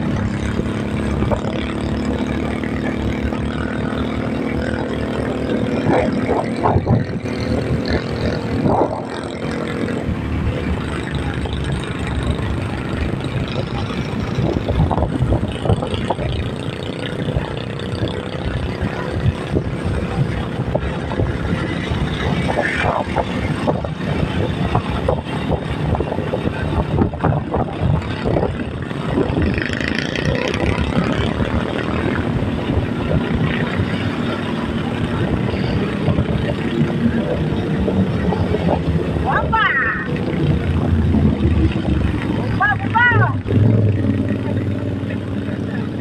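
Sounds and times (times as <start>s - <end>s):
vehicle road and engine noise: 0.0s - 46.0s.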